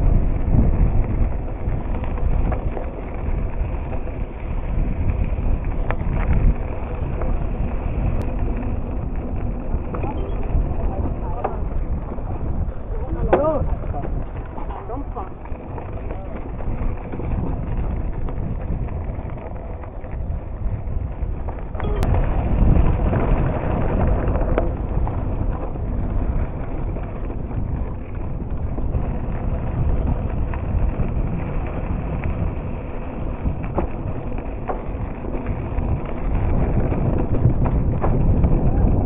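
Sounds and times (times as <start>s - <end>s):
bicycle rolling: 0.0s - 39.0s
bike clicks and rattles: 0.0s - 39.0s
wind buffeting microphone: 0.0s - 39.0s.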